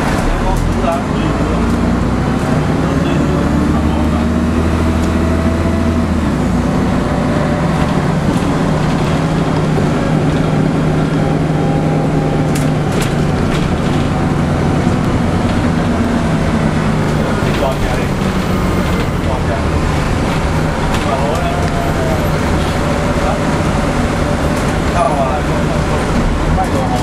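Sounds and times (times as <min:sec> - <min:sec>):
bus diesel engine running: 0:00.0 - 0:27.0
road and wind noise: 0:00.0 - 0:27.0.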